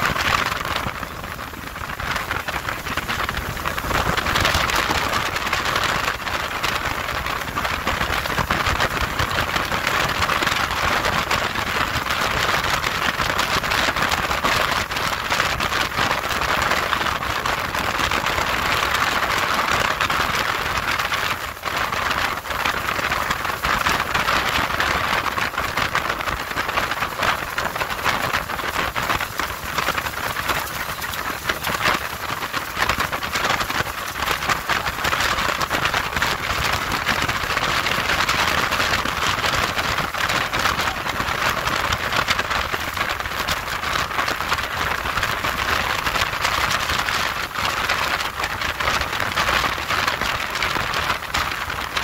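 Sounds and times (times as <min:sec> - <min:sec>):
spray pattering on hull: 0:00.0 - 0:52.0.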